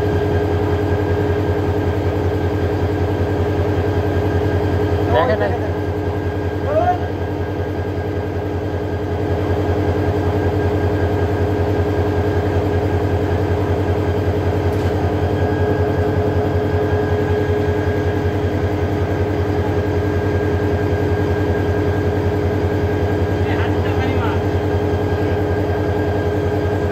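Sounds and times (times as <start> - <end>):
locomotive engine droning: 0.0 - 26.9.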